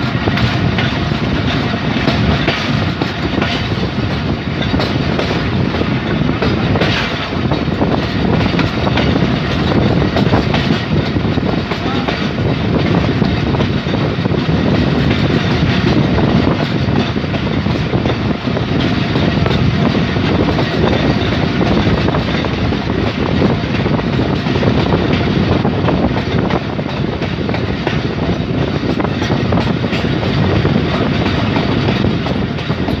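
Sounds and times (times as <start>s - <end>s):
train wheels rumbling on rail: 0.0s - 33.0s
wheels clicking over rail joints: 0.0s - 33.0s.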